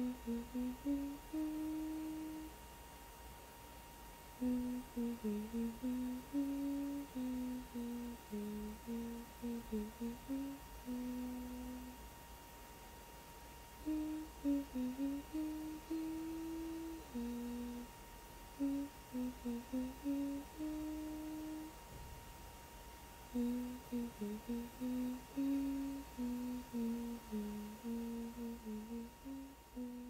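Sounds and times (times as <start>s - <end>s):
woman humming: 0.0s - 2.6s, 4.4s - 12.0s, 13.8s - 21.8s, 23.3s - 30.0s
faint high whine: 0.0s - 30.0s.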